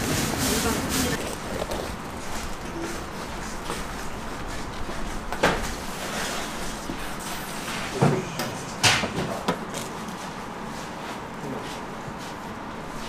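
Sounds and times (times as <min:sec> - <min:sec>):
kitchen background noise: 0:00.0 - 0:13.0.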